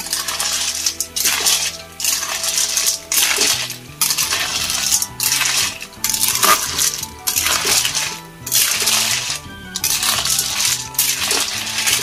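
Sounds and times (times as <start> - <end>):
metal spatula stirring: 0.0 - 12.0
snail shells clinking in metal wok: 0.0 - 12.0.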